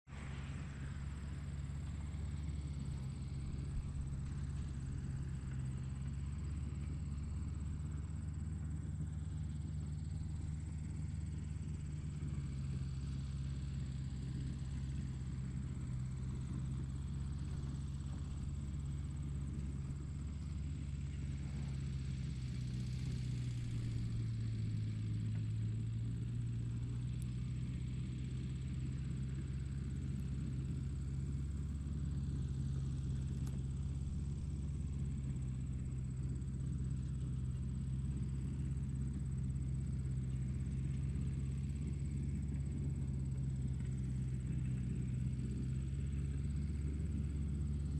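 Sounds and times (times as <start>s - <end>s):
tractor engine humming: 0.1s - 47.9s.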